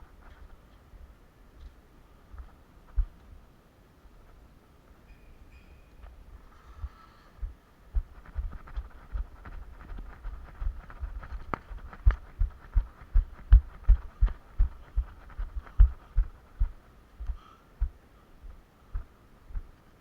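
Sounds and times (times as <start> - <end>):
low thuds of footsteps: 0.0 - 3.4, 6.1 - 19.8.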